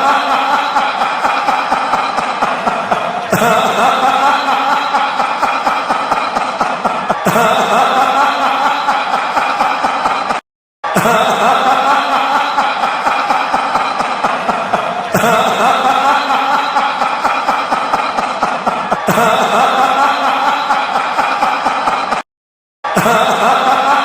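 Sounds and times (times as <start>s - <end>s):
laughing sound effect: 0.0s - 22.2s.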